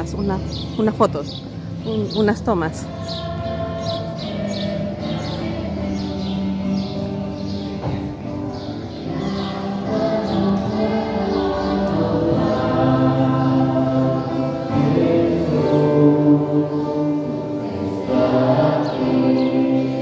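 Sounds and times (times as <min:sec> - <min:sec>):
choir singing a hymn: 0:02.0 - 0:20.0.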